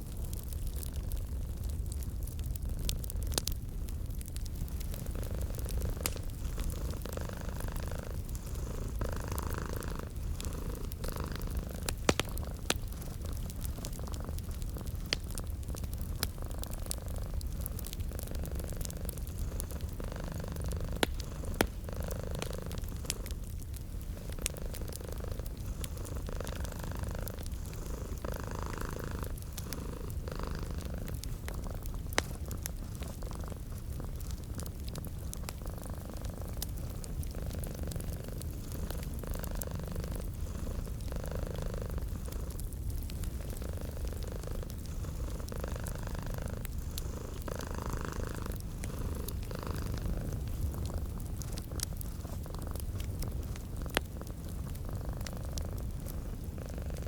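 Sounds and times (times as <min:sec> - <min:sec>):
wood fire crackling: 0:00.0 - 0:57.0
cat purring: 0:01.6 - 0:57.0.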